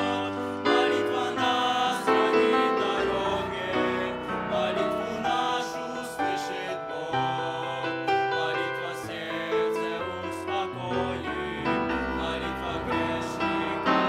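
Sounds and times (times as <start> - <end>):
piano accompaniment: 0.0 - 14.0
vocal group singing a hymn: 0.0 - 14.0.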